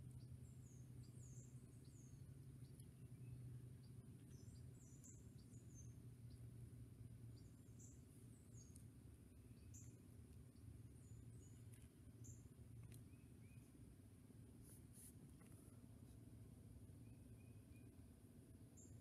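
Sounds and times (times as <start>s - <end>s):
faint high hiss: 0.0s - 19.0s
steady low hum: 0.0s - 19.0s.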